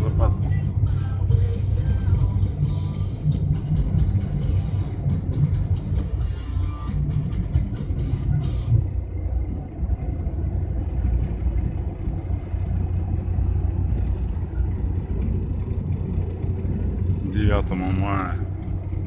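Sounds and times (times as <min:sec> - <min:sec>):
van engine and road rumble: 0:00.0 - 0:19.0.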